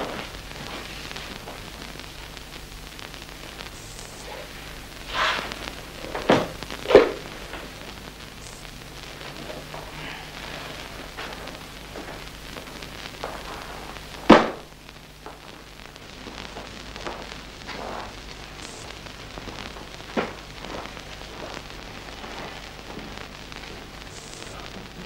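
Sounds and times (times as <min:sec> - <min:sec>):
film soundtrack hiss and hum: 0:00.0 - 0:25.0.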